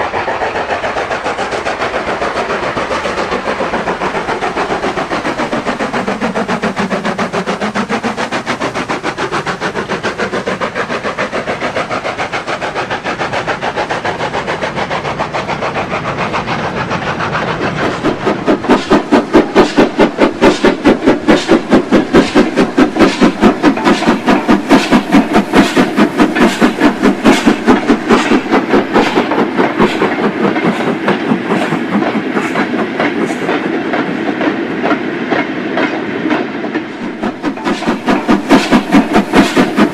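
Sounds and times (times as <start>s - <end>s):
model train clickety-clack: 0.0s - 39.9s.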